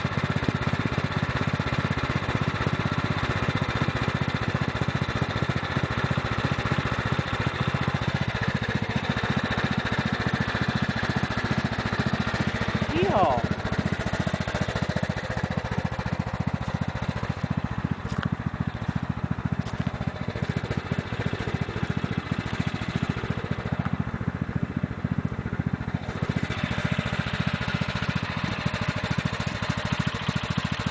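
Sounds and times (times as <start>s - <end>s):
lawn tractor engine idling: 0.0s - 30.9s.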